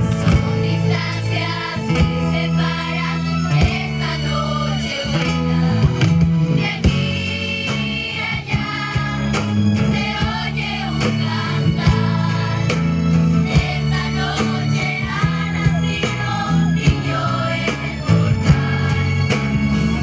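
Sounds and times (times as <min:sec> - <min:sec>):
group of voices singing: 0:00.0 - 0:20.0
guitar: 0:00.0 - 0:20.0
steady bass: 0:00.0 - 0:20.0
regular beat: 0:00.1 - 0:04.2, 0:05.9 - 0:19.5.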